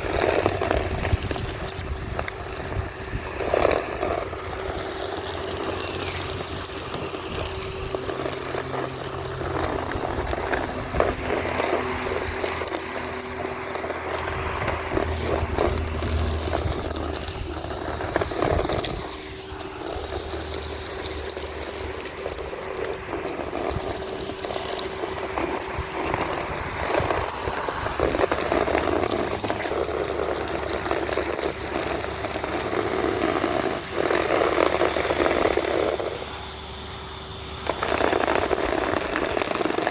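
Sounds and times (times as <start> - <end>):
grit rattling through hose: 0.0 - 39.9
vacuum cleaner motor whine: 0.0 - 39.9.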